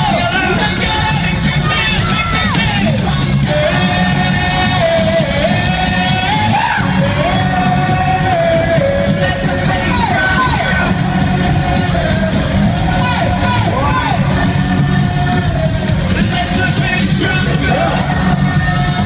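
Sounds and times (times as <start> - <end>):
crowd yelling: 0.0 - 19.0
live pop music with heavy bass: 0.0 - 19.0.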